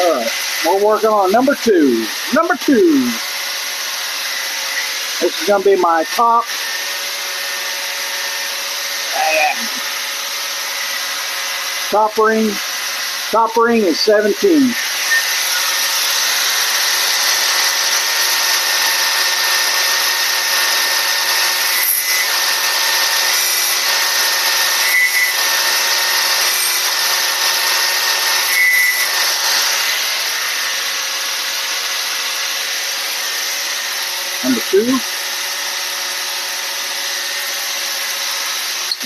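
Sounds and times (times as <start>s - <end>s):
grinder wheel grinding metal ring: 0.0s - 39.0s.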